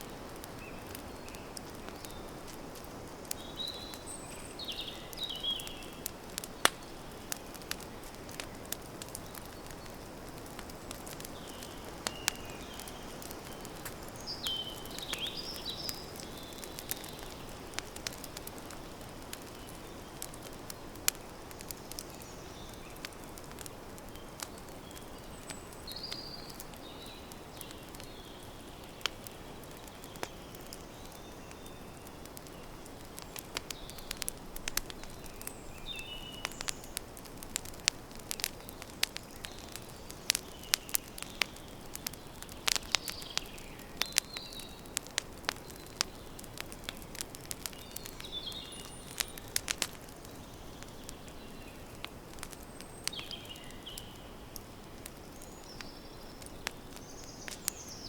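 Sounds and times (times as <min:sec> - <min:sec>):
campfire crackling and popping: 0:00.0 - 0:58.0
soft steady hiss: 0:00.0 - 0:58.0
birds chirping: 0:00.1 - 0:58.0.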